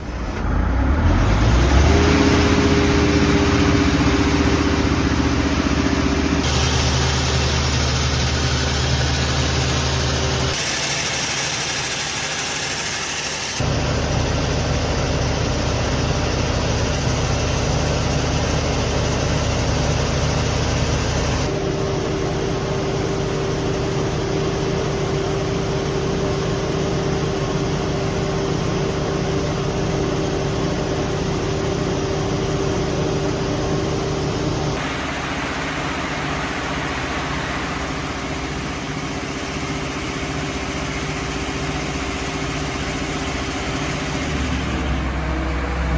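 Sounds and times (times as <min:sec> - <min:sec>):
generator engine running: 0:00.0 - 0:45.9
steady whine: 0:01.9 - 0:45.9.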